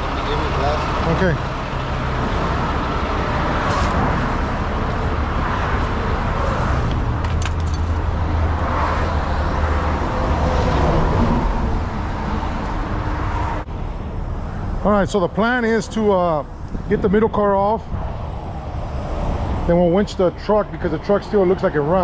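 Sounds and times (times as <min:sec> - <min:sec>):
freeway traffic passing: 0:00.0 - 0:22.0.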